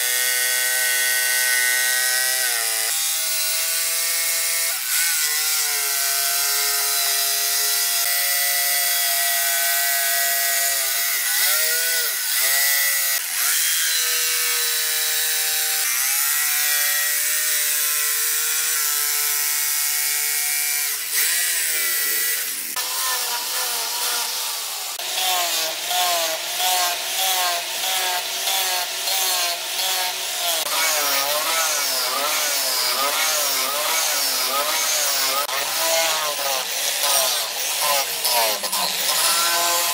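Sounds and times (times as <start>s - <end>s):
angle grinder sanding wood: 0.0s - 39.9s
electric jigsaw cutting wood: 0.0s - 39.9s.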